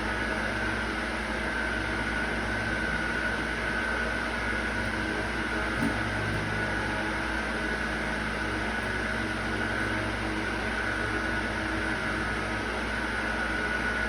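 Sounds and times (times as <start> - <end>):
constant high whine: 0.0 - 14.0
machine hum and hiss: 0.0 - 14.0.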